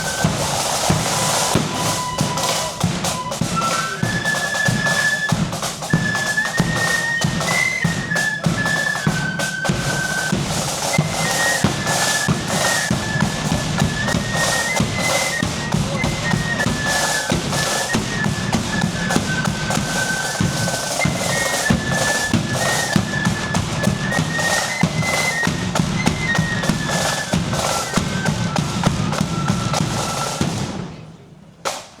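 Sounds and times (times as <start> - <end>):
flute melody: 0.0 - 31.0
snare drums: 0.0 - 32.0.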